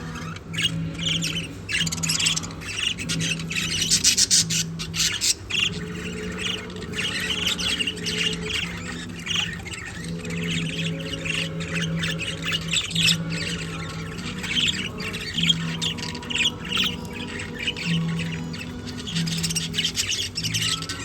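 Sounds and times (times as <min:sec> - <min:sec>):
budgerigars chattering and squawking: 0:00.0 - 0:21.0.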